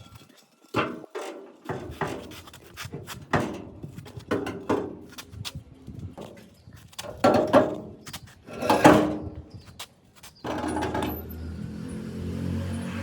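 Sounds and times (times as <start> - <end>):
rubbing and scraping: 0.0 - 11.3.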